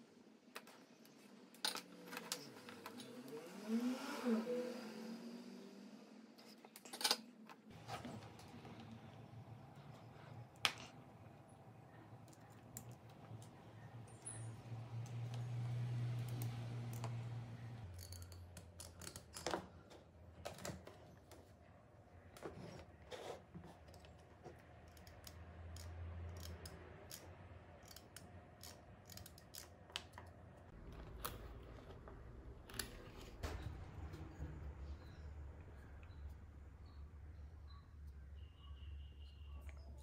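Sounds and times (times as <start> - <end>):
faint low hum: 7.7 - 40.0.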